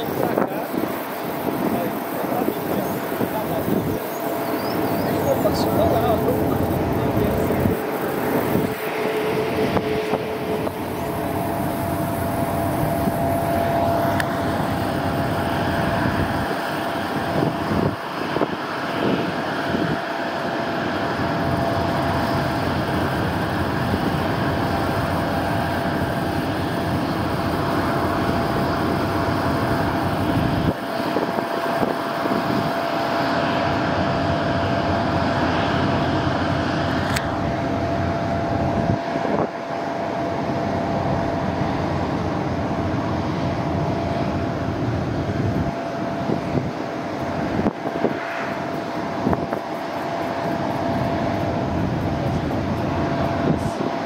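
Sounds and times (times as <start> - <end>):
jet engines at taxi power: 0.0 - 54.0.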